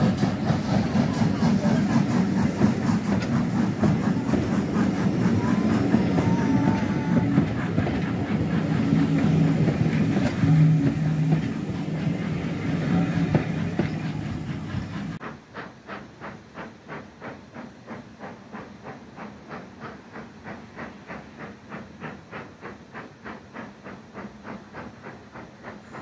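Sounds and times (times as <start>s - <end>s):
train wheels clattering over rail joints: 0.0s - 26.0s.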